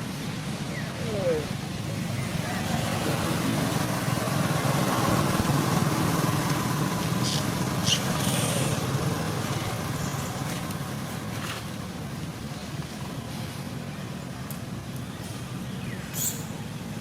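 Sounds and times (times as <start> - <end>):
vehicle engine running: 1.4 - 15.7.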